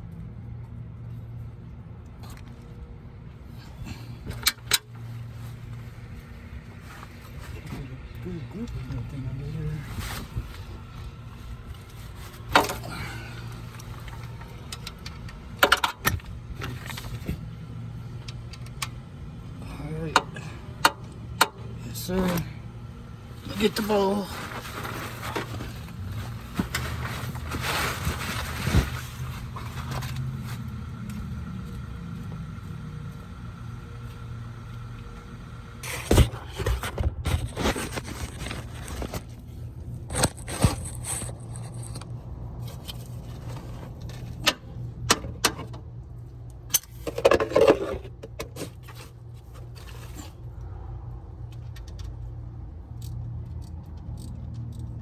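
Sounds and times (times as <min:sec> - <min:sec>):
low hum: 0:00.0 - 0:47.2.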